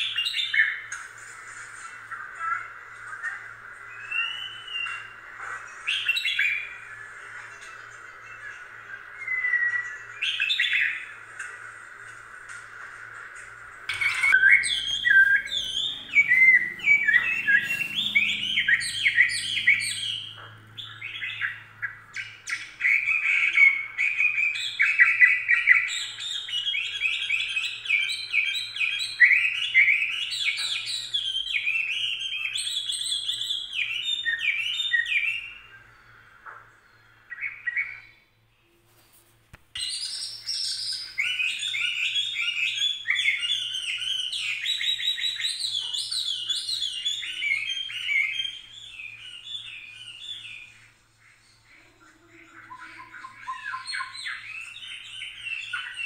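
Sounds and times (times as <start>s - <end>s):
songbird chirping and twittering: 0.0s - 12.6s, 13.9s - 56.0s.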